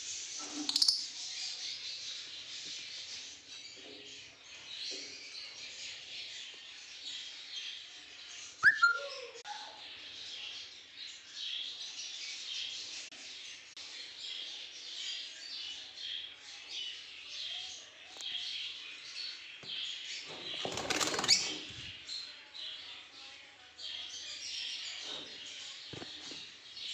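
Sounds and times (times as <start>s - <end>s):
lovebirds chirping and chattering: 0.0s - 26.9s.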